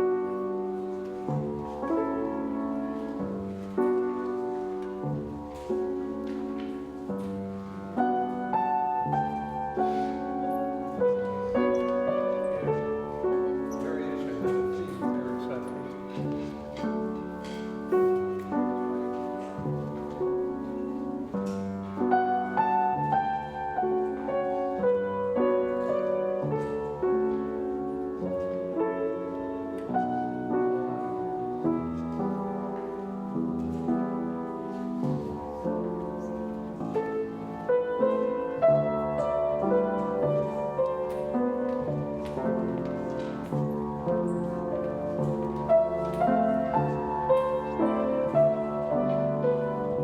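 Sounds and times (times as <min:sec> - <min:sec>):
slow piano music: 0:00.0 - 0:50.0.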